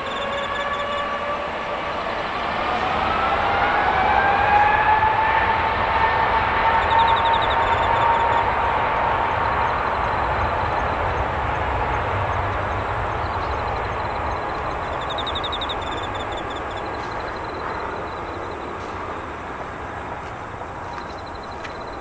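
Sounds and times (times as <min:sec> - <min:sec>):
jet engines rumbling and hissing: 0:00.0 - 0:22.0.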